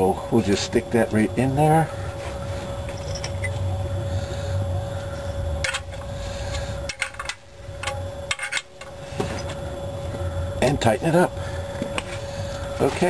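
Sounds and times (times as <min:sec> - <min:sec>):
faint steady tone: 0:00.0 - 0:13.0
low hum: 0:00.0 - 0:13.0.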